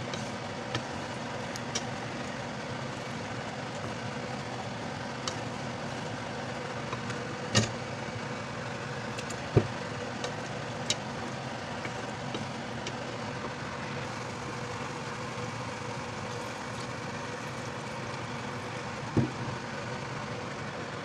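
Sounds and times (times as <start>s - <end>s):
meat sizzling in oil: 0.0s - 19.1s.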